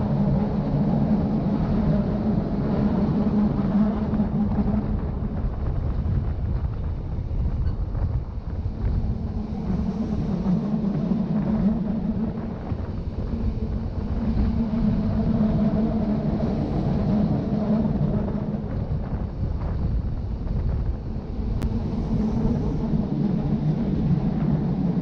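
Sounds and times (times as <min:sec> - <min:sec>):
electric train rumbling on track: 0:00.0 - 0:25.0.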